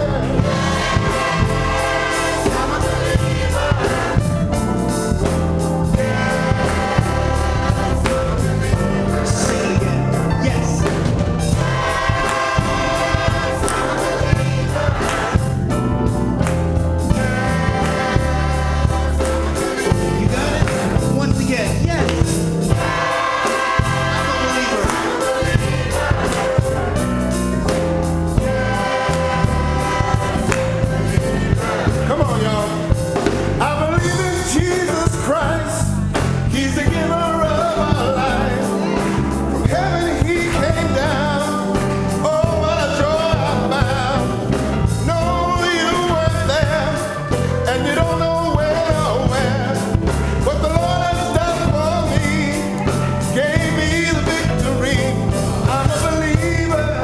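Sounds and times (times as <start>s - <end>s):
drum hits: 0.0s - 56.9s
band accompaniment: 0.0s - 57.0s
bass line: 0.0s - 57.0s
gospel choir singing: 0.0s - 57.0s.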